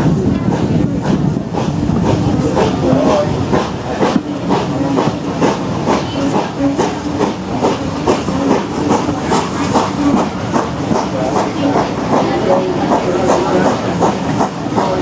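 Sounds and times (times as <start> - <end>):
train running with regular beat: 0.0 - 15.0.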